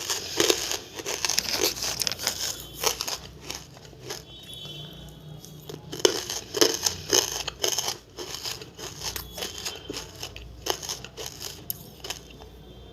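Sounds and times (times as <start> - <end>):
chewing crunchy pieces: 0.0 - 12.6.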